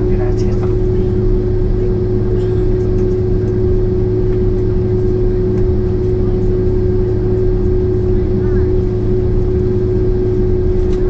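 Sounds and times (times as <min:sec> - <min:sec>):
airplane cabin engine drone: 0:00.0 - 0:11.0.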